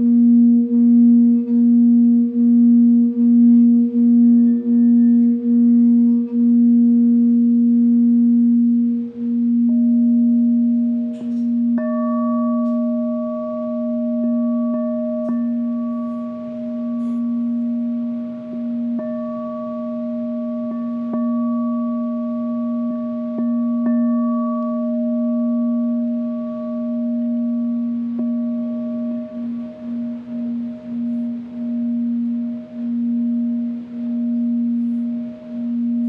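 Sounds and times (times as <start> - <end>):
singing bowl low tone: 0.0 - 36.0.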